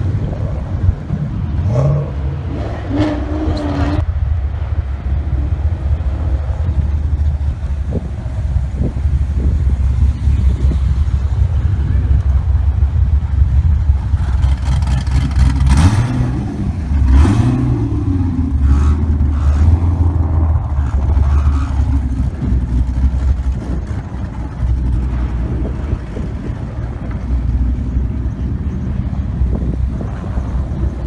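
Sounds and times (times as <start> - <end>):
car engine revving and rumbling: 0.0 - 31.0.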